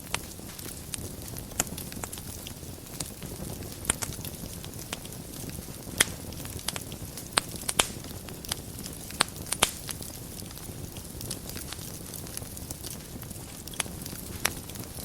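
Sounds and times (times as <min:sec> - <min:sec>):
fire crackling in a fireplace: 0:00.0 - 0:15.0
low rumble of flames: 0:00.0 - 0:15.0.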